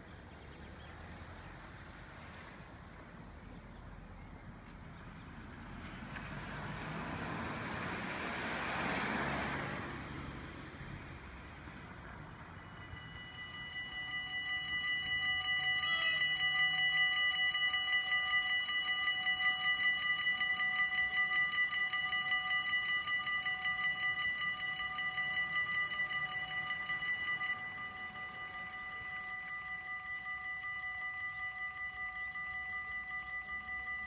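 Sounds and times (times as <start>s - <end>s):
level crossing warning bells: 3.2s - 34.0s.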